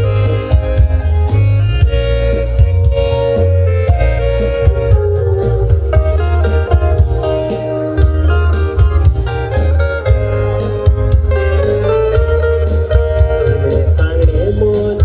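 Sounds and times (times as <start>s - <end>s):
band music with drums and bass: 0.0s - 15.0s.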